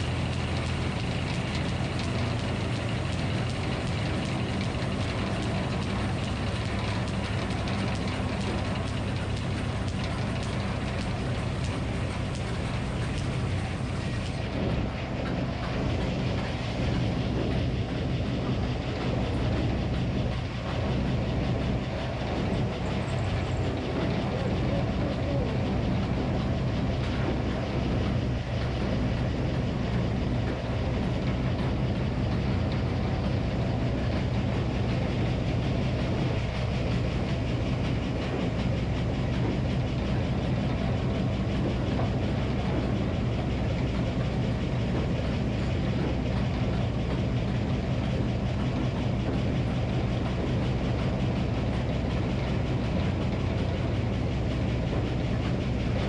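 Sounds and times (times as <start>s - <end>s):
sawmill engine running steadily: 0.0s - 56.0s.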